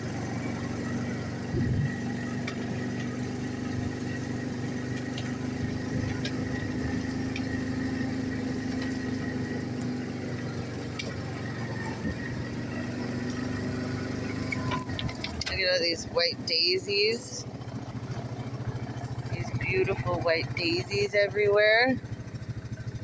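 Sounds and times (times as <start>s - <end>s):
atv engine running steadily: 0.0s - 23.0s.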